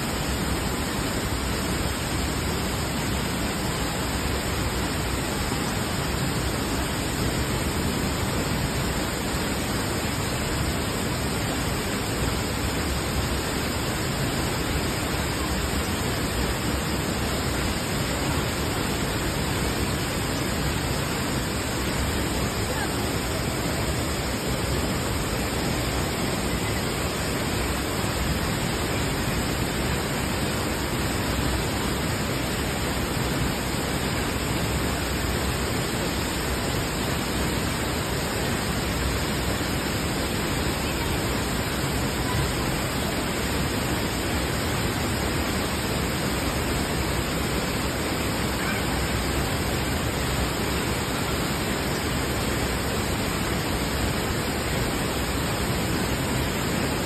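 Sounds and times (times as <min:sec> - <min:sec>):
waterfall rushing into pool: 0:00.0 - 0:57.0.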